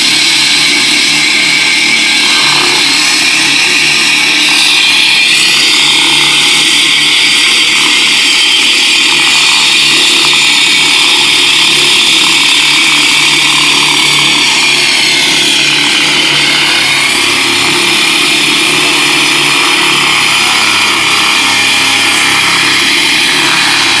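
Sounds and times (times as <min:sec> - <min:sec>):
concrete saw grinding concrete: 0:00.0 - 0:24.0.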